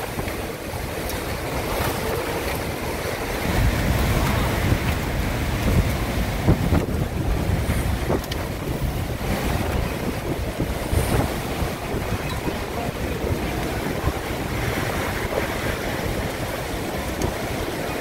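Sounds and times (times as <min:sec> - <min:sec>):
strong wind rushing: 0:00.0 - 0:18.0
wind gusts buffeting microphone: 0:00.0 - 0:18.0.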